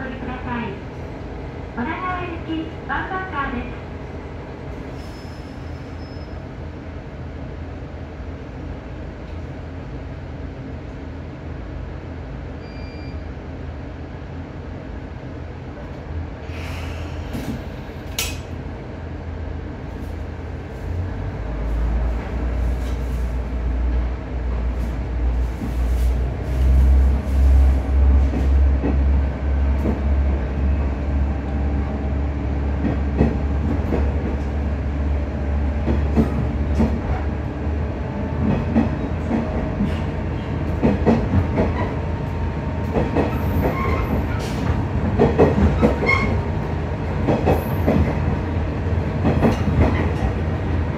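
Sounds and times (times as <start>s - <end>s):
diesel railcar engine drone: 0.0s - 50.9s.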